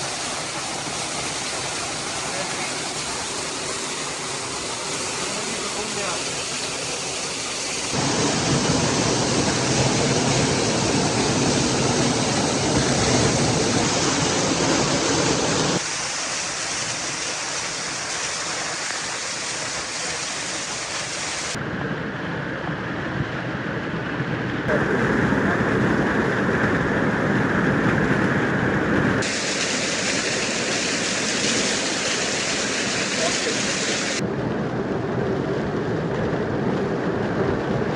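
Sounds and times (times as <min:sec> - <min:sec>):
waterfall rushing: 0:00.0 - 0:21.6, 0:24.7 - 0:34.2.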